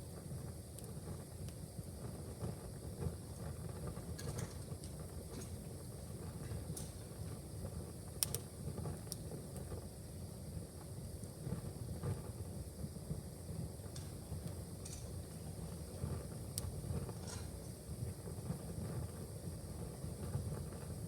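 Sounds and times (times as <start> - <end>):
fire crackles and pops: 0.0 - 21.0
fire rumbling: 0.0 - 21.0.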